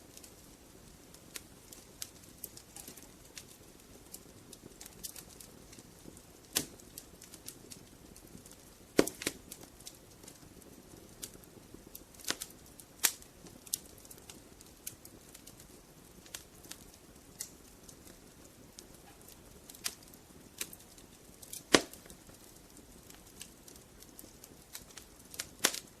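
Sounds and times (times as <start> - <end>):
faint low hiss: 0.0 - 26.0
wood fire crackling: 0.0 - 26.0.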